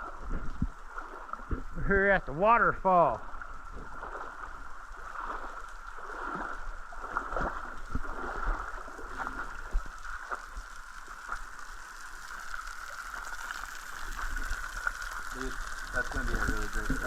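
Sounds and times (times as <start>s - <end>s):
small waterfall splashing: 0.0s - 17.0s
water dripping: 0.0s - 17.0s.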